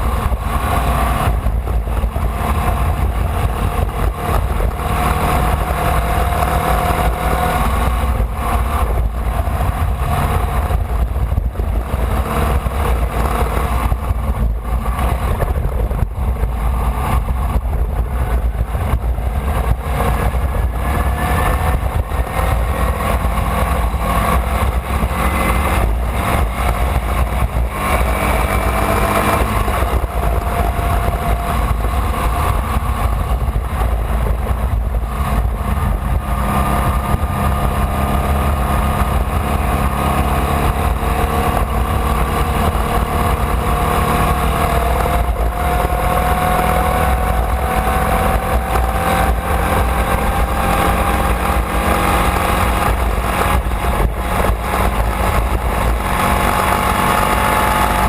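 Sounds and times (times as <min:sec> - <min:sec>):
race car engine accelerating: 0:00.0 - 0:58.0
road rumble: 0:00.0 - 0:58.0
wind noise: 0:00.0 - 0:58.0.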